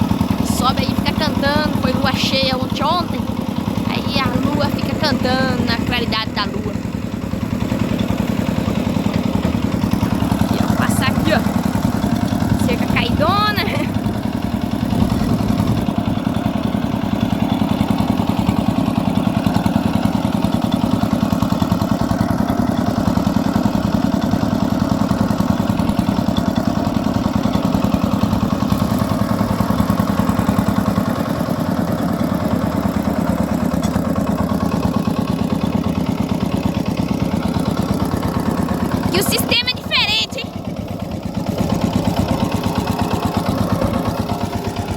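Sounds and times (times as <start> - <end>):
tractor engine chugging: 0.0 - 44.9.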